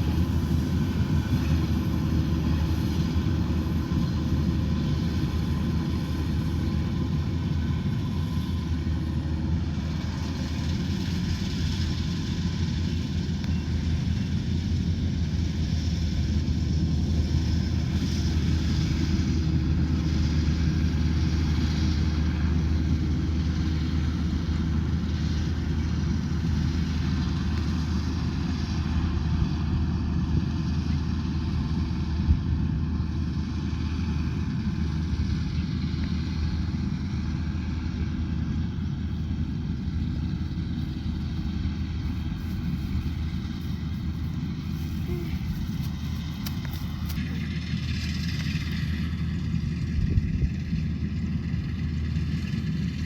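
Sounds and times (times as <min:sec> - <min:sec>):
low engine drone: 0:00.0 - 0:53.0
machinery noise: 0:00.0 - 0:53.0.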